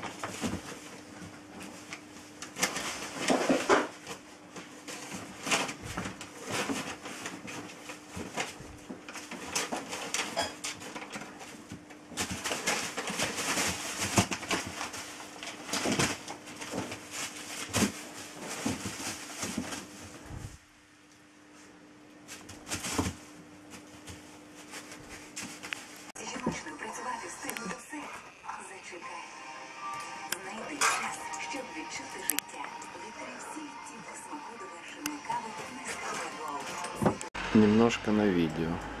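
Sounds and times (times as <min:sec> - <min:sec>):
plastic bags rustling: 0:00.0 - 0:20.6, 0:22.2 - 0:27.7, 0:30.4 - 0:37.4.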